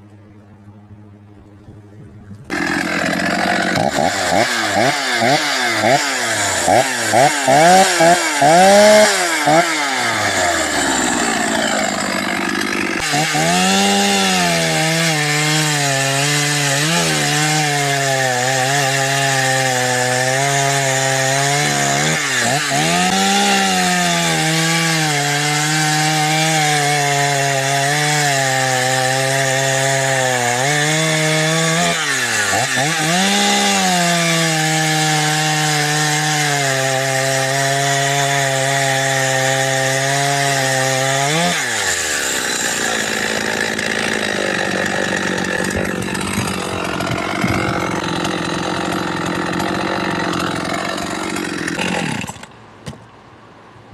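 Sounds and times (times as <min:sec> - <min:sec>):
chainsaw cutting wood: 0:02.5 - 0:53.0.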